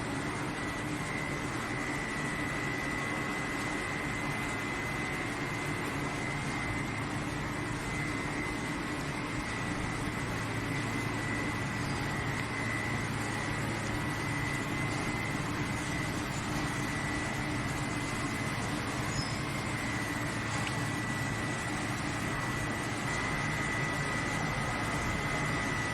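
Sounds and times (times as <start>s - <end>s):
constant high whine: 0.0s - 25.9s
low machinery hum: 0.0s - 25.9s.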